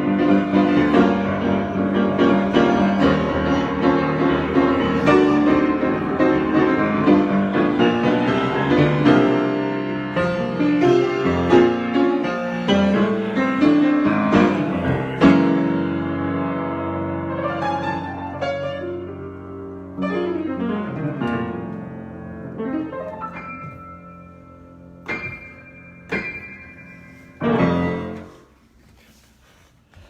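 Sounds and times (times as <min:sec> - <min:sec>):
piano improvisation: 0:00.0 - 0:29.2.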